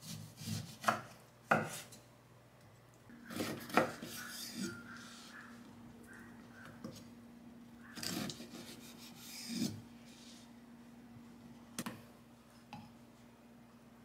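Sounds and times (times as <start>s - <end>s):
low steady hum: 1.0s - 14.0s.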